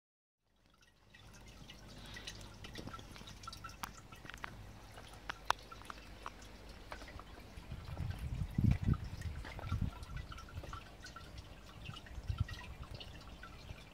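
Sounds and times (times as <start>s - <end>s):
small drips and splashes: 0.4s - 13.9s
water trickling into basin: 0.4s - 13.9s.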